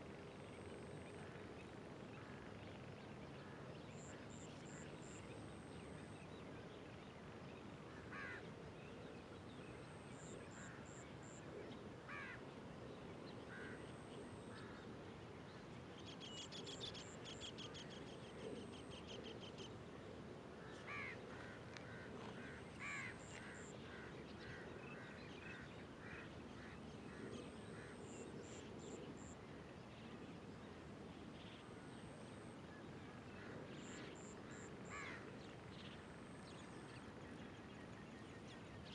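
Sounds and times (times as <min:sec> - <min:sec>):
faint birdsong: 0:00.0 - 0:38.9
low background hiss: 0:00.0 - 0:38.9.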